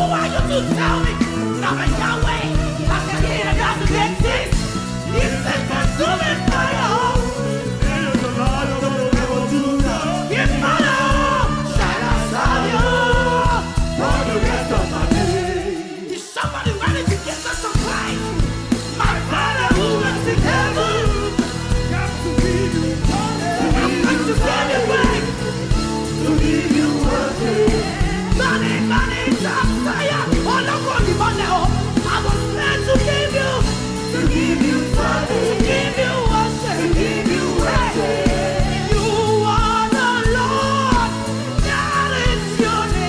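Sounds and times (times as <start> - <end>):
gospel band with bass: 0.0 - 43.0
singing: 0.0 - 43.0.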